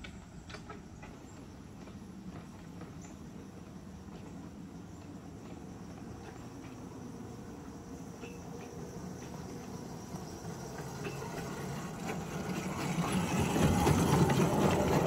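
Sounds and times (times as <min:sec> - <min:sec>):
wheels clicking on rails: 0:00.0 - 0:15.0.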